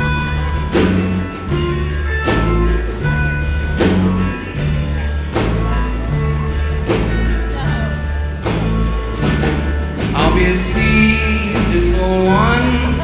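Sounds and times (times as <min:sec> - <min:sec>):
bass line: 0:00.0 - 0:13.0
drum hits: 0:00.0 - 0:13.0
sustained high instrument notes: 0:00.0 - 0:13.0.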